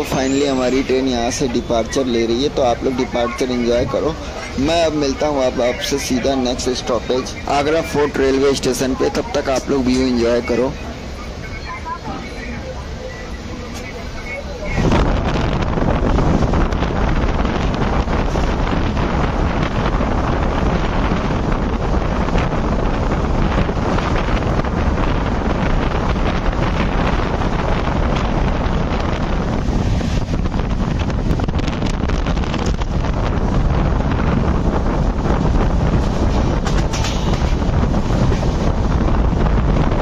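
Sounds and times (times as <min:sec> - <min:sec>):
train running at speed: 0:00.0 - 0:40.0
wind buffeting microphone: 0:00.0 - 0:40.0.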